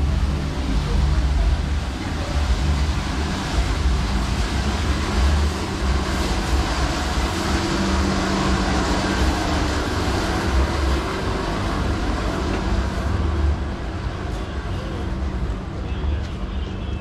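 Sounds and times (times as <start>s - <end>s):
low rumble: 0.0s - 15.7s
crowd noise: 0.0s - 17.0s
distant traffic: 0.0s - 17.0s.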